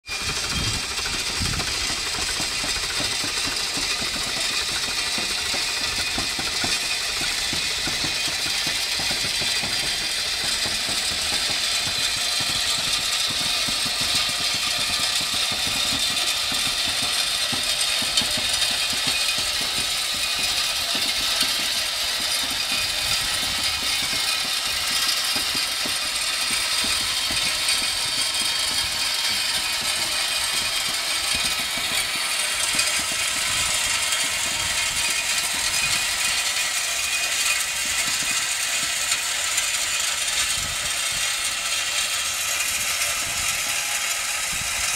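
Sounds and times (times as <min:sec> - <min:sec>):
stone ballast pouring: 0:00.1 - 0:44.6
wagons rattling: 0:00.1 - 0:44.9.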